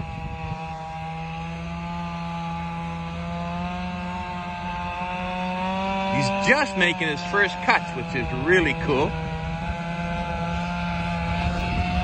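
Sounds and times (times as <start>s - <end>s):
chainsaw cutting log: 0.0s - 12.0s.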